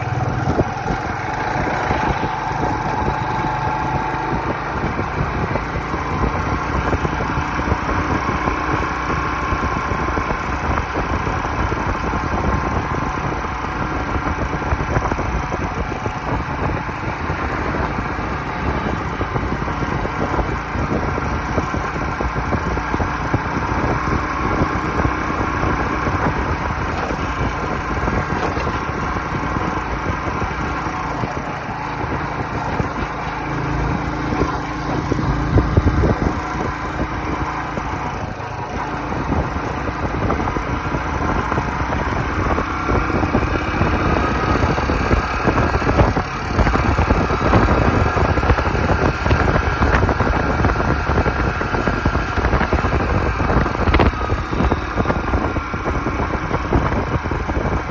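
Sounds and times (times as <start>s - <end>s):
motorcycle engine running: 0.0s - 57.9s
wind noise: 0.0s - 57.9s.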